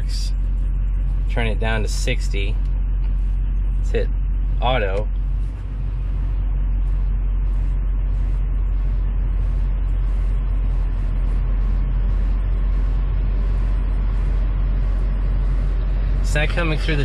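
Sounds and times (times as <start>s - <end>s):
blower fan: 0.0s - 17.0s
diesel engine idling: 0.0s - 17.0s.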